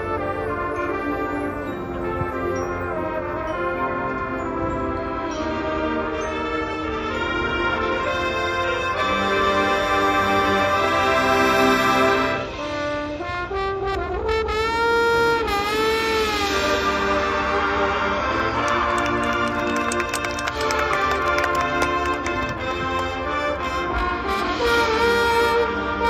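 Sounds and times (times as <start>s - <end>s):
marching band brass chords: 0.0s - 26.0s.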